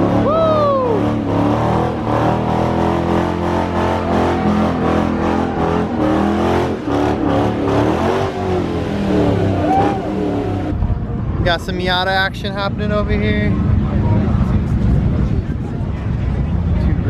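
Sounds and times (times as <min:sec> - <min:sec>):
car engines running and revving: 0:00.0 - 0:17.0.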